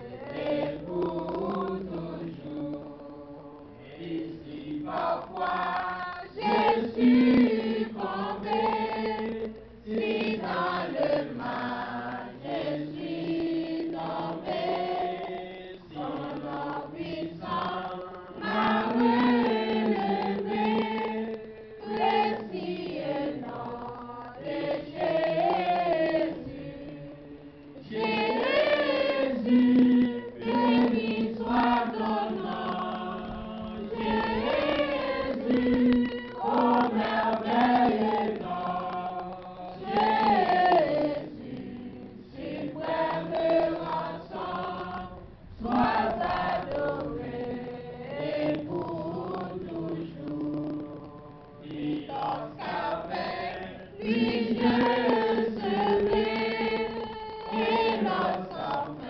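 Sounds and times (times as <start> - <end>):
congregation singing: 0.0 - 59.0.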